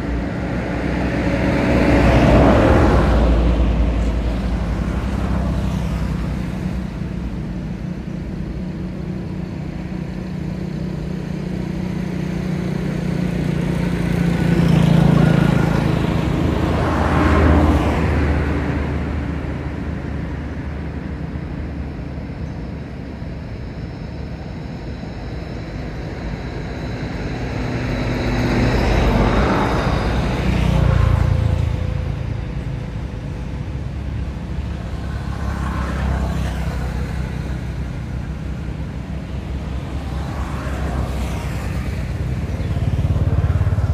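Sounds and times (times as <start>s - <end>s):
motor vehicles passing: 0.0s - 43.9s
steady low hum: 0.0s - 43.9s.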